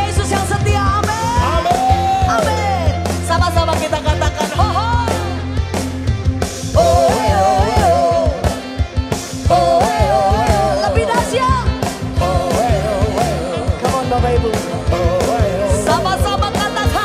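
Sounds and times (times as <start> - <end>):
woman singing: 0.0 - 5.4, 6.8 - 8.6, 9.5 - 17.0
worship band playing: 0.0 - 17.0.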